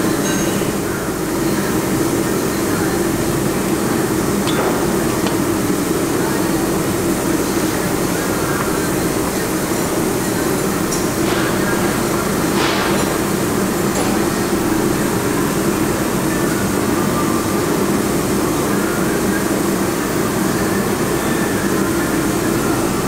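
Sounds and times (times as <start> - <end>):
balancing machine humming: 0.8 - 23.0.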